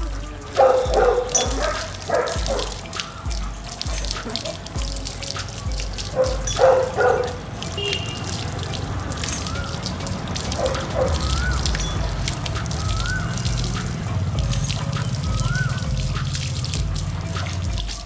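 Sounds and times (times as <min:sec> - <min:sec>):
water splashing and dripping on concrete: 0:00.0 - 0:18.0.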